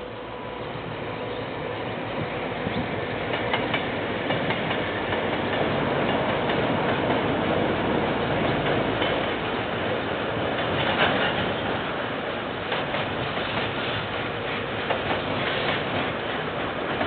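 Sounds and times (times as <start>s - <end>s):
freight train rumbling: 0.0s - 17.0s
wheels clicking on track: 2.6s - 17.0s.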